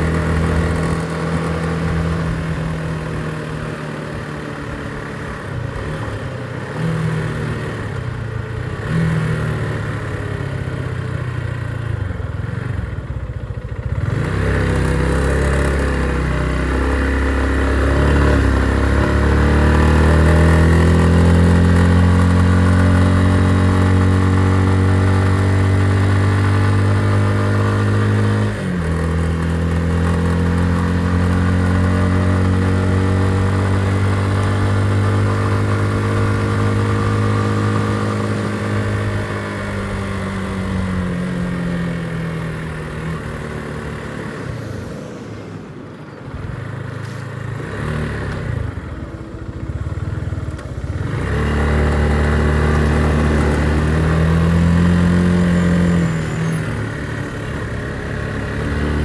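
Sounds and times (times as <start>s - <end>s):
motorcycle engine running: 0.0s - 44.4s, 47.4s - 59.0s.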